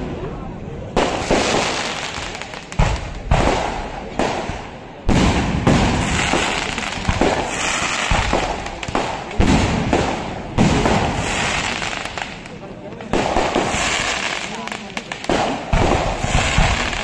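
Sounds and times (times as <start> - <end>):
fireworks crackling: 0.8 - 17.0
firework bangs: 0.9 - 17.0.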